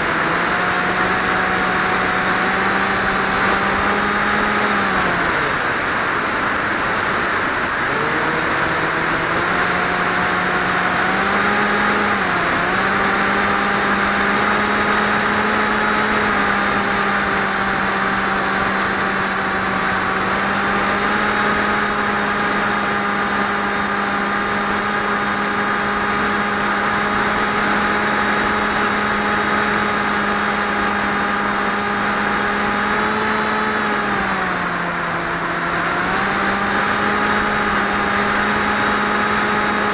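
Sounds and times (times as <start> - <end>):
model aircraft motor droning: 0.0 - 39.9.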